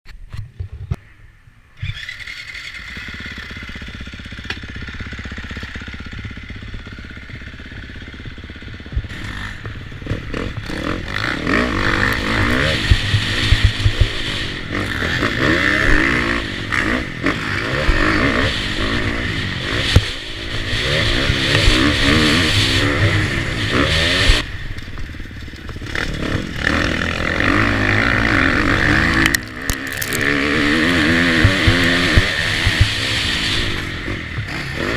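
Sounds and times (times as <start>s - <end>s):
motocross bike engine revving: 1.8s - 34.9s.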